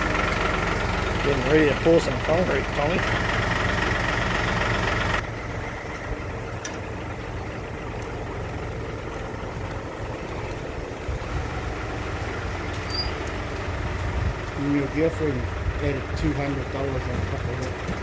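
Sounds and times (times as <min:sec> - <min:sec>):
truck diesel engine idling: 0:00.0 - 0:18.0.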